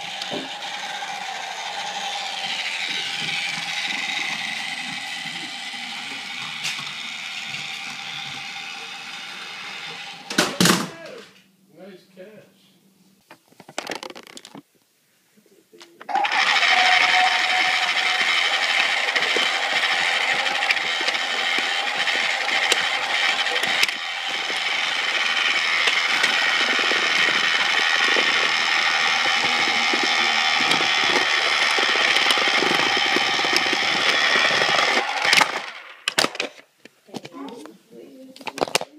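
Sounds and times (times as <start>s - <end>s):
toy train motor whirring: 0.0s - 10.6s, 16.1s - 36.7s.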